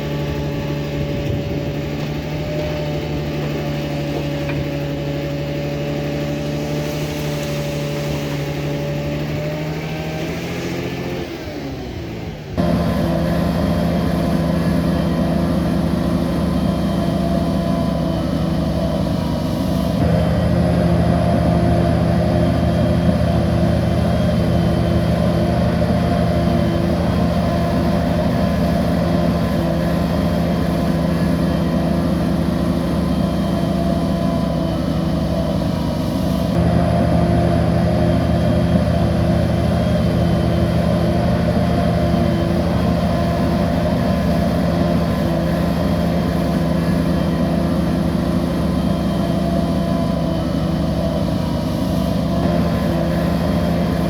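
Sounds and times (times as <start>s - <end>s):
bulldozer engine running: 0.0s - 54.0s.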